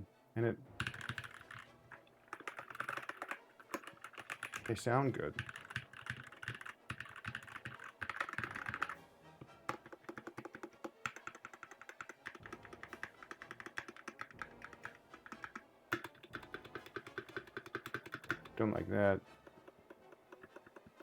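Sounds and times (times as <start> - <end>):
mechanical keyboard typing: 0.8 - 9.0, 9.7 - 18.7, 19.4 - 21.0.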